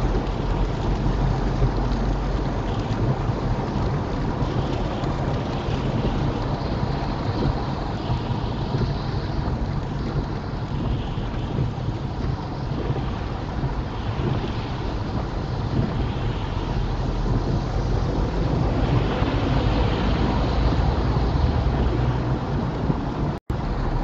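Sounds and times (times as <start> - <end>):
low engine hum: 0.0 - 24.0
rain on windscreen: 0.0 - 24.0
road roar: 0.0 - 24.0
tyres hissing on wet road: 0.0 - 24.0.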